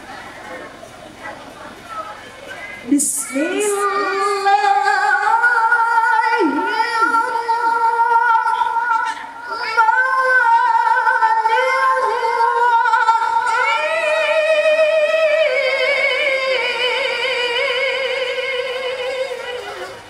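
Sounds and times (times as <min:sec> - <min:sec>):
woman chanting into a microphone: 0:02.8 - 0:20.0.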